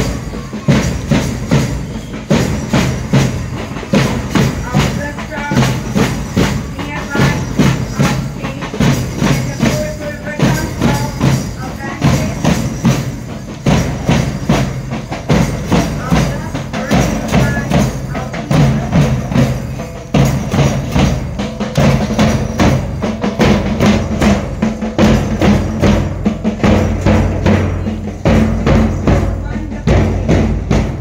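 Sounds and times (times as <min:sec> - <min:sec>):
percussion music with fast drums: 0:00.0 - 0:31.0.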